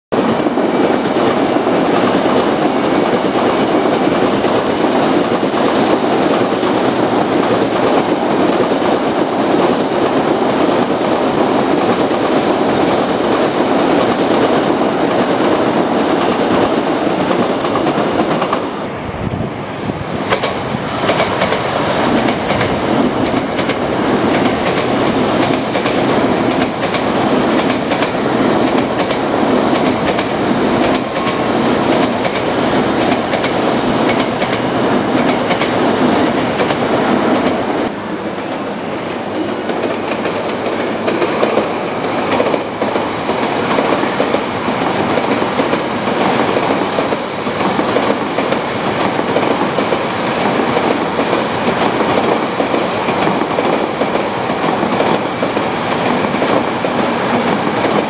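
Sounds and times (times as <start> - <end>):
train wheels rumbling on rails: 0.1 - 58.0.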